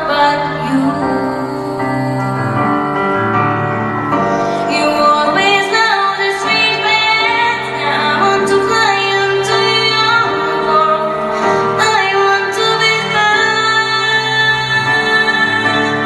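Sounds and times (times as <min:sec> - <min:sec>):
woman singing ballad: 0:00.0 - 0:03.1, 0:04.4 - 0:16.0
musical accompaniment: 0:00.0 - 0:16.0.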